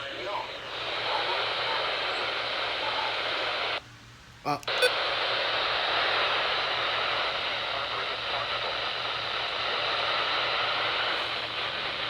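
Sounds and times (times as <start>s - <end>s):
radio static hiss: 0.0s - 3.8s, 4.4s - 12.0s.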